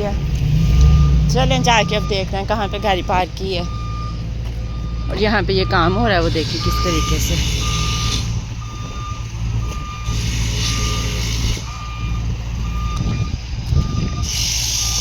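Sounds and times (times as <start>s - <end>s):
reversing alarm beeping: 0.0s - 15.0s
vehicle engine running: 0.0s - 15.0s.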